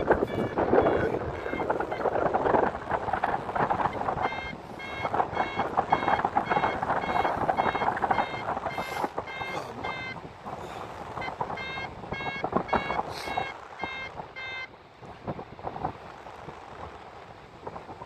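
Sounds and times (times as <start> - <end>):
variometer beeping: 0.0 - 14.8
wind buffeting microphone: 0.0 - 18.0.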